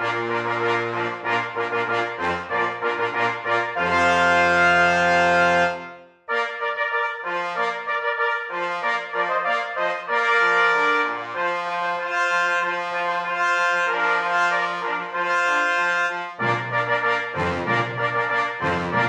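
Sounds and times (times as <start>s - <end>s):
brass fanfare music: 0.0s - 19.0s.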